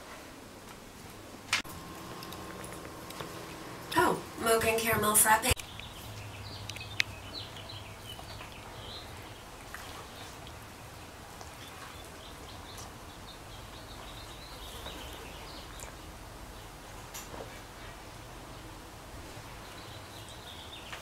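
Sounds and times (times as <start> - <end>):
steady low hum: 1.1 - 20.7.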